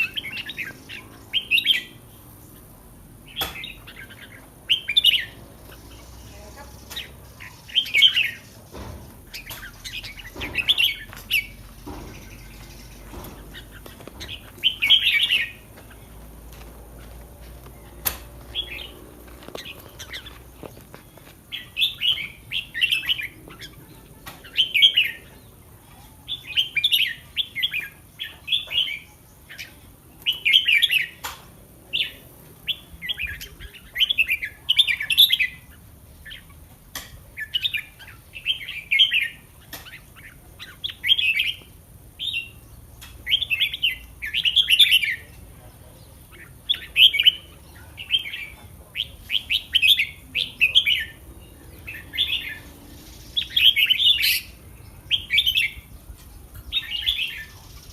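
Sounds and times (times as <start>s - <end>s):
bird singing warbled phrases: 0.0s - 57.9s.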